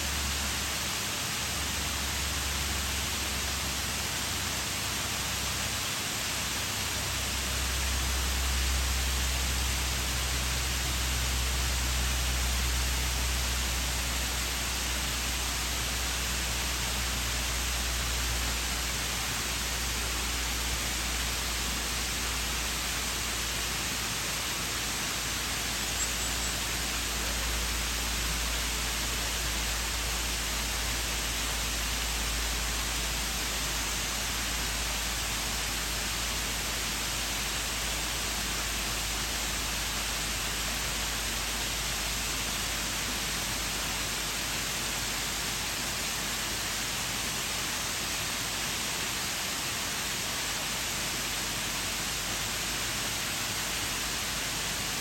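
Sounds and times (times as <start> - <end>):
waterfall splashing onto rocks: 0.0 - 55.0.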